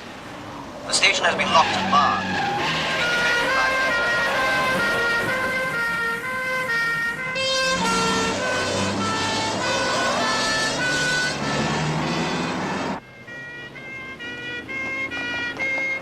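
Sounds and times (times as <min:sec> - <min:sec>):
deep engine rumble: 0:00.0 - 0:16.0
police sirens two-note pattern: 0:00.0 - 0:16.0
vehicle engines running: 0:00.0 - 0:16.0.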